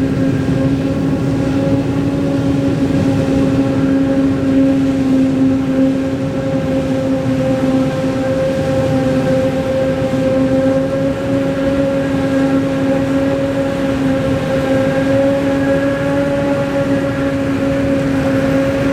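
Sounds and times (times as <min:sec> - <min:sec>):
farm machinery engine droning: 0:00.0 - 0:18.9.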